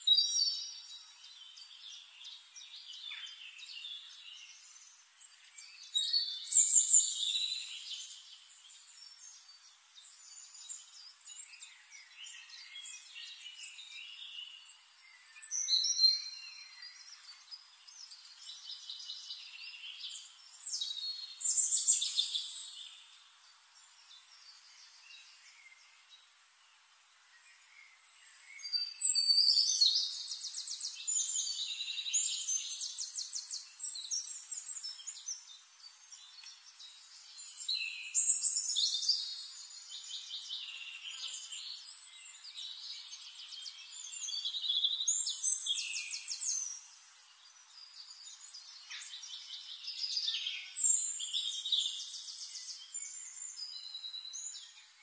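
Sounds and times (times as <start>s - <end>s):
small birds trilling and chirping: 0.0s - 55.0s.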